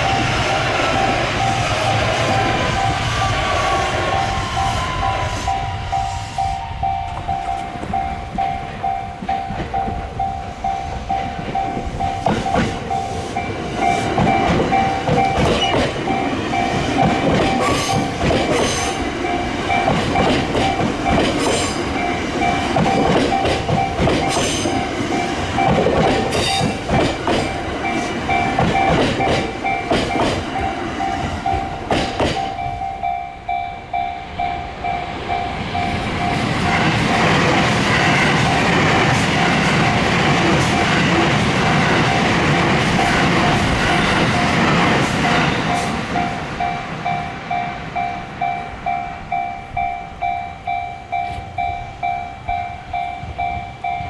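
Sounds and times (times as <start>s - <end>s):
train wheels clattering: 0.0s - 33.2s, 34.2s - 50.4s
crossing warning bell ringing: 0.0s - 54.0s.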